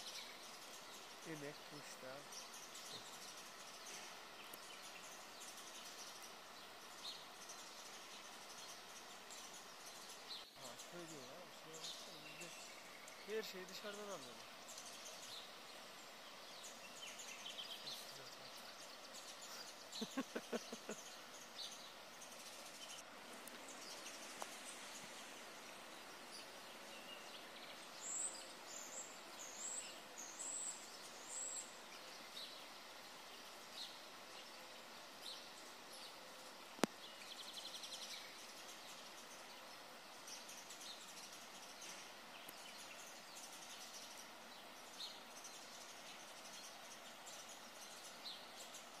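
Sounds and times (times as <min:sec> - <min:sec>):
steady background hiss: 0:00.0 - 0:49.0
wild birds chirping: 0:00.0 - 0:49.0.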